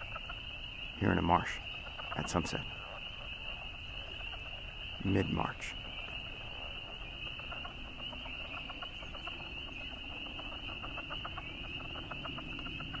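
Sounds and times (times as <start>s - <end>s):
frogs giving clucking calls: 0.0s - 13.0s
high-pitched peeping frog chorus: 0.0s - 13.0s.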